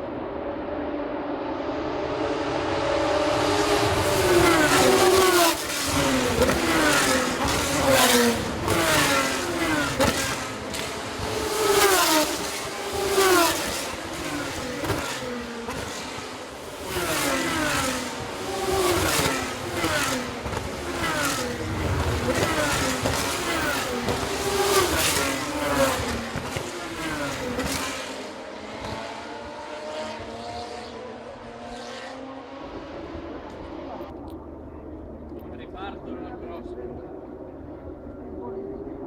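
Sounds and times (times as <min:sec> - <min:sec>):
race cars passing at speed: 0:00.0 - 0:39.0.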